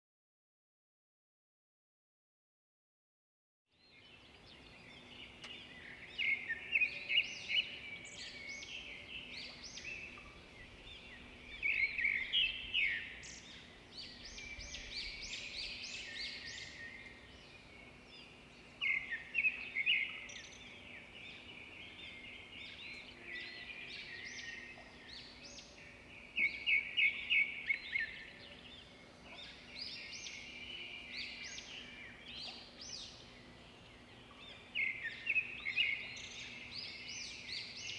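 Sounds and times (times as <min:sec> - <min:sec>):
small birds chirping: 0:03.7 - 0:37.9.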